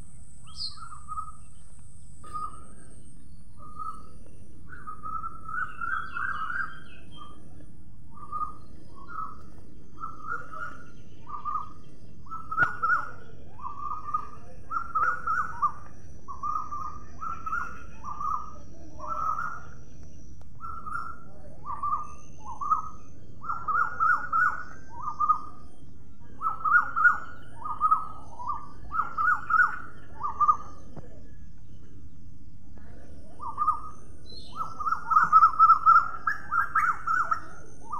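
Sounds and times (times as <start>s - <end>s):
bird chirping: 0.0s - 37.9s.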